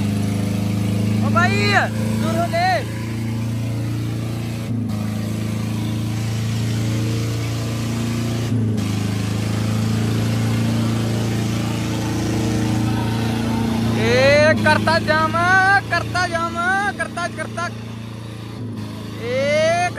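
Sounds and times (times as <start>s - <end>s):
diesel tractor engines under load: 0.0s - 19.9s.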